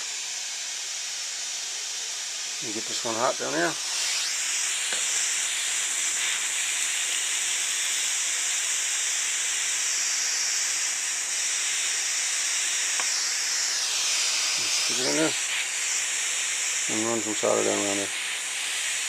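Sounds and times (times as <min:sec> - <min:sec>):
hand torch hissing: 0:00.0 - 0:19.0.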